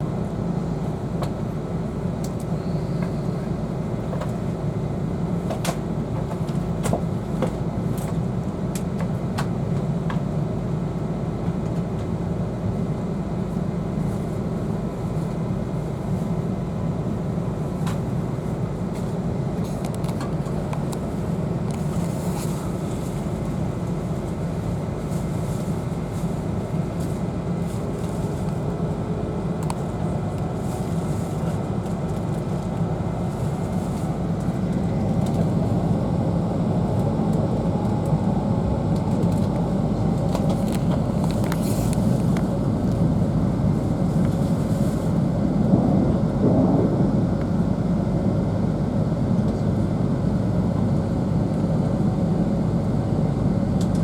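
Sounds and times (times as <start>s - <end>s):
train running rumble: 0.0s - 54.0s.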